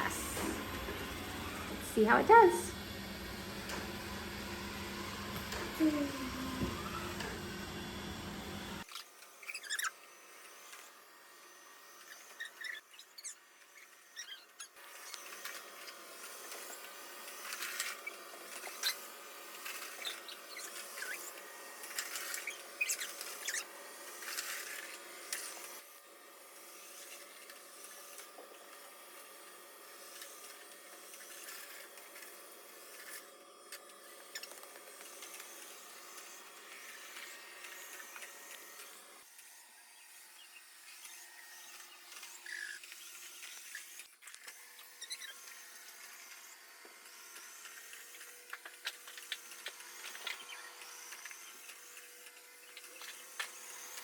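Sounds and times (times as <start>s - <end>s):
robot vacuum whirring: 0.0s - 54.0s.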